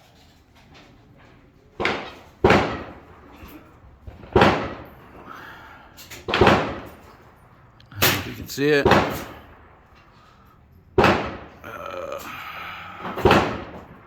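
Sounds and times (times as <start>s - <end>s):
gunshots with echo: 1.8s - 14.0s.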